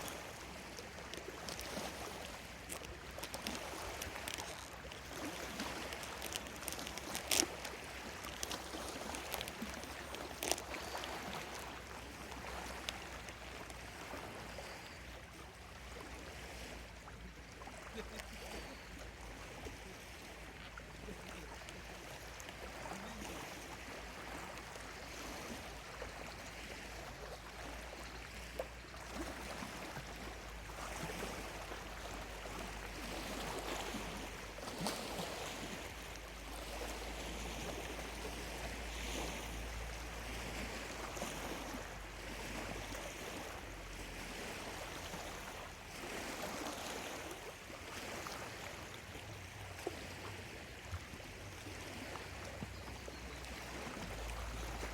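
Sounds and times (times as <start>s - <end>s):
waves lapping on shore: 0.0s - 54.9s.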